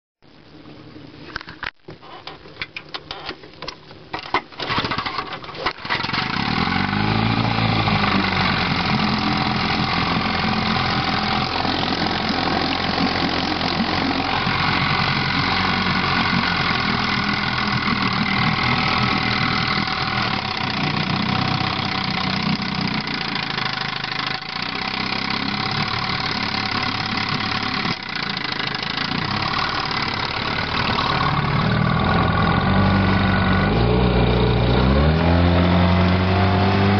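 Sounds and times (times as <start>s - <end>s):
outboard motor starting and running: 4.1s - 36.9s.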